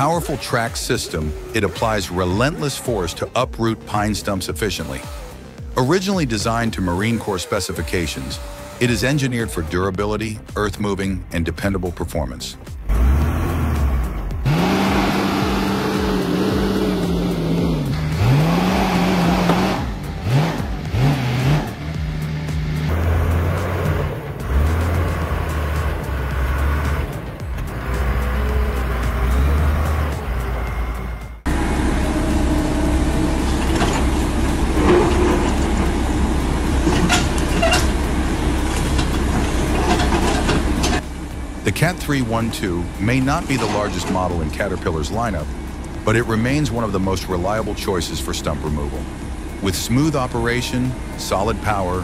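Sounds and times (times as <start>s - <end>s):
bulldozer diesel engine under load: 0.0s - 52.0s.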